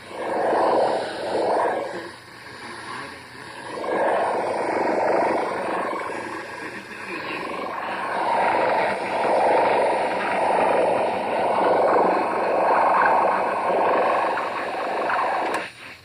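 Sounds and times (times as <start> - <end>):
radio static rushing noise: 0.0 - 16.0.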